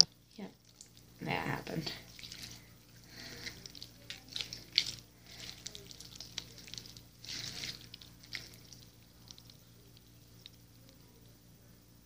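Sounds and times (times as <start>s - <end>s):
slime crackling and squelching: 0.0s - 11.2s.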